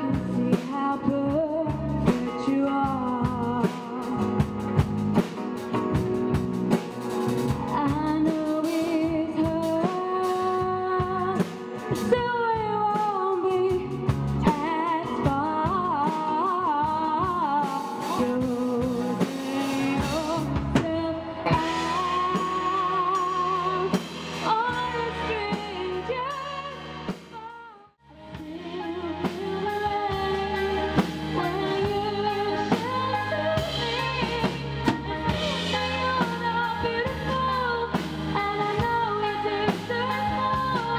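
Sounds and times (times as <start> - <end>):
woman singing: 0.0 - 4.8, 7.6 - 40.9
rock band playing: 0.0 - 40.9.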